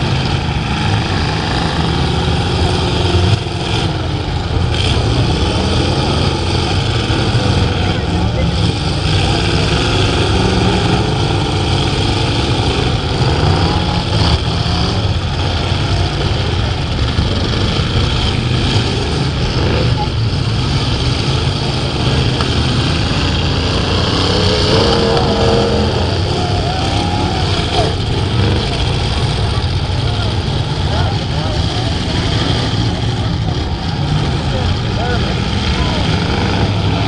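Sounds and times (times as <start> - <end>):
racing truck engines: 0.0 - 37.0.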